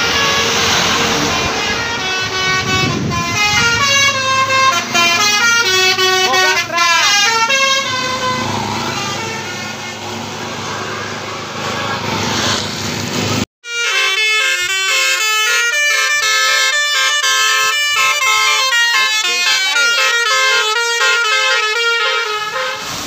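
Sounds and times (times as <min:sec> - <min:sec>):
musical air horn playing a tune: 0:00.0 - 0:10.2, 0:13.6 - 0:23.0
bus passing: 0:00.0 - 0:23.0.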